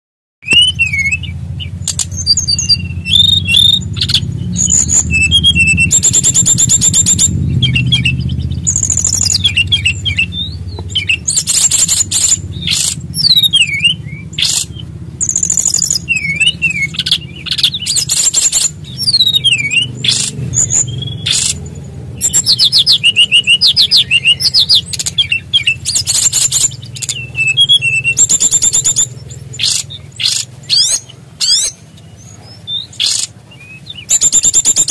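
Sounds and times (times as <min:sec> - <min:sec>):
bird whistled song: 0:00.4 - 0:34.9
bird rattling trills: 0:00.5 - 0:31.9, 0:32.8 - 0:34.9
steady low hum: 0:00.6 - 0:34.2.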